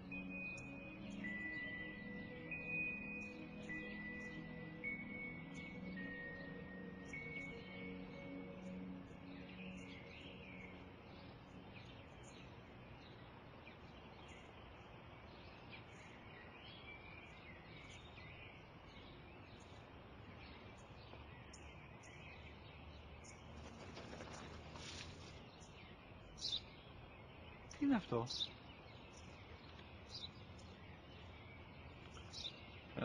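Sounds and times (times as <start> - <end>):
low background noise: 0.0 - 33.0
small birds chirping: 0.0 - 33.0.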